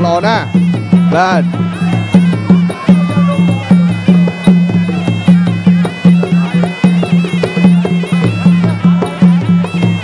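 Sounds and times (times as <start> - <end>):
reedy oboe melody: 0.0 - 10.0
steady drum beat: 0.0 - 10.0.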